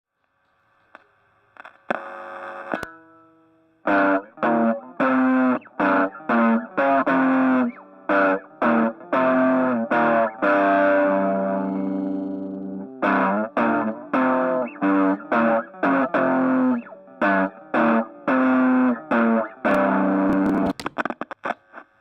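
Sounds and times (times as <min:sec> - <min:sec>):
distorted electric guitar chords: 0:01.9 - 0:21.6.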